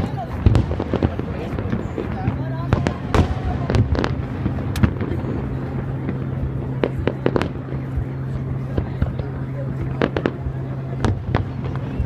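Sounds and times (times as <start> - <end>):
fireworks bangs and cracks: 0.0 - 12.0
steady low hum: 0.0 - 12.0.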